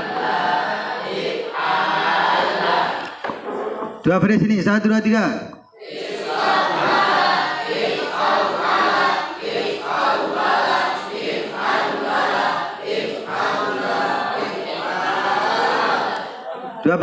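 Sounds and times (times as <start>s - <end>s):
group chanting in unison: 0.0s - 4.0s, 5.7s - 16.8s.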